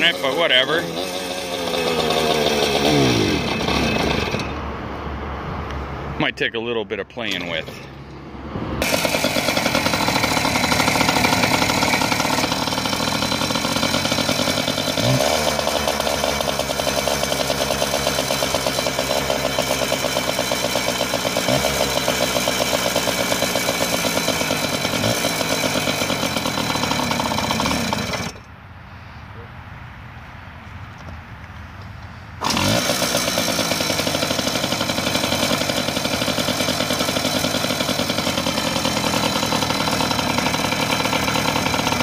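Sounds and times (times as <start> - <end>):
two-stroke engine running: 0.0 - 4.9, 7.2 - 8.0, 8.8 - 28.5, 32.4 - 42.0.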